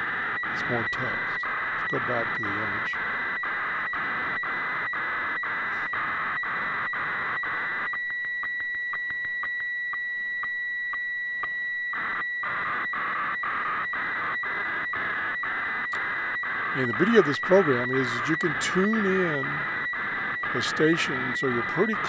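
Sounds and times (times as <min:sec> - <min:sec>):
warbling radio fax tone: 0:00.0 - 0:22.0.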